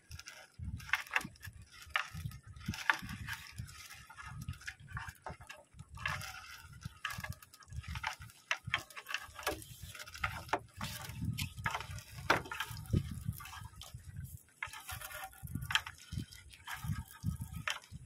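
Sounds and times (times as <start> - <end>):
net rustling and crackling: 0.0 - 18.0
water drips and splashes: 1.2 - 18.0.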